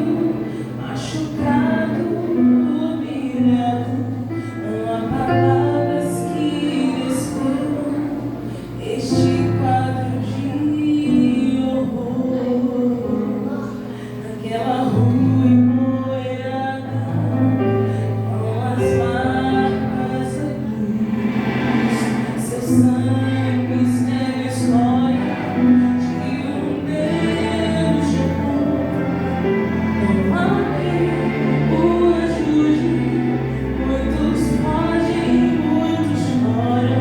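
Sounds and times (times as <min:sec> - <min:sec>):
woman singing: 0:00.0 - 0:21.1, 0:22.4 - 0:37.0
instrumental backing with bass: 0:00.0 - 0:37.0.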